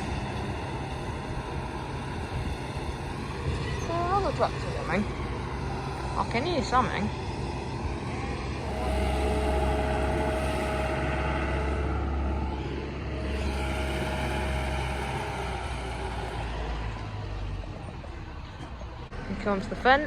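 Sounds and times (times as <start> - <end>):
heavy vehicle diesel engine: 0.0 - 20.0.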